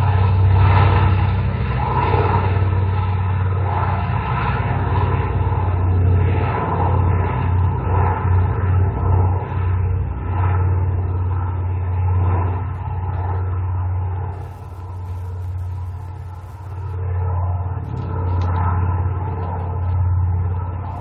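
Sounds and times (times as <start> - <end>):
aircraft engine drone through loudspeaker: 0.0 - 21.0.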